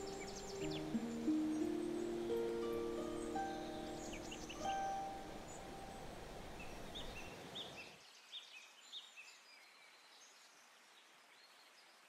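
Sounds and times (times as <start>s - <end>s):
small birds chirping: 0.0s - 10.6s
faint outdoor ambience: 0.0s - 12.0s.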